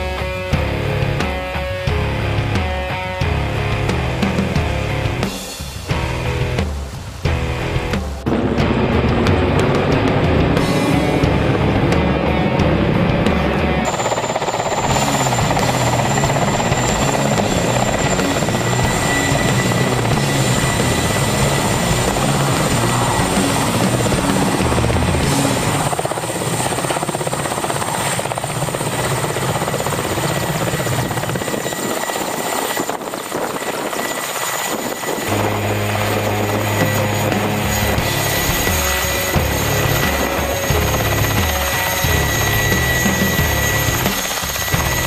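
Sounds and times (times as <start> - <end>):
helicopter rotor and turbines: 0.0 - 45.0.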